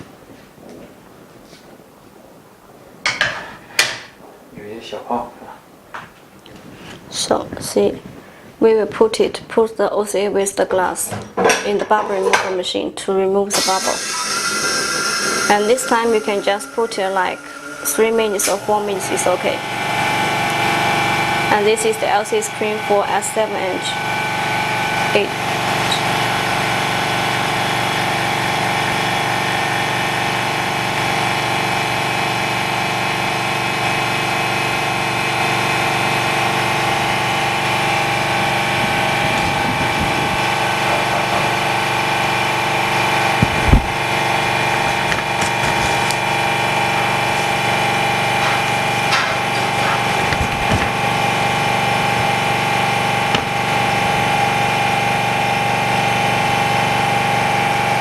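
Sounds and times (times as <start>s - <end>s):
machine mechanical hum: 0.0s - 58.0s.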